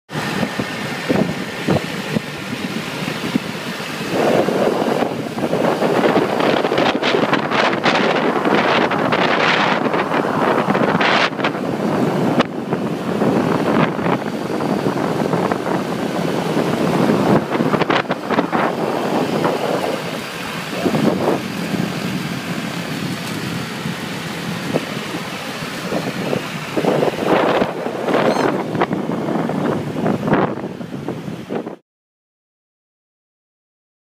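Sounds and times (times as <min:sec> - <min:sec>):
traffic noise: 0:00.1 - 0:31.8
wind rushing over microphone: 0:00.1 - 0:31.8
motor scooters running: 0:00.2 - 0:31.4.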